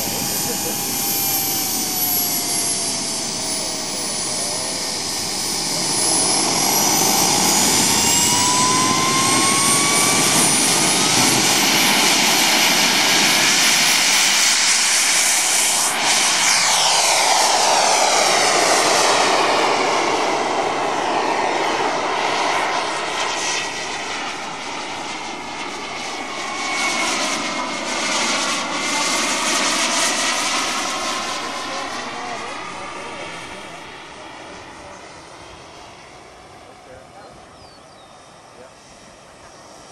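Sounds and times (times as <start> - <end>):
model jet whine flying past: 0.0 - 39.9.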